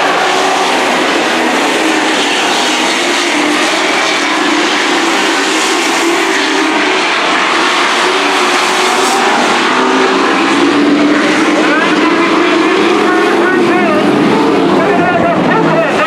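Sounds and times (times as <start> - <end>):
race truck engines roaring: 0.0 - 16.0.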